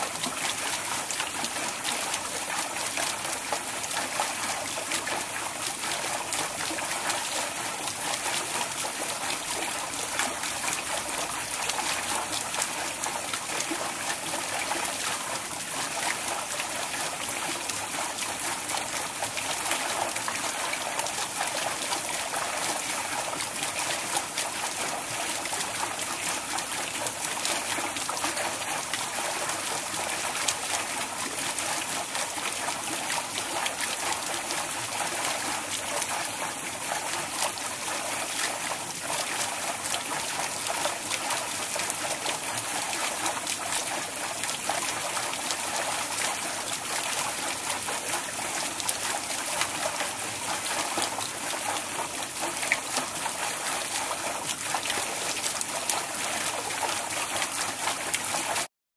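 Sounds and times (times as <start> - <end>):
water pouring onto waterwheel: 0.0 - 58.7.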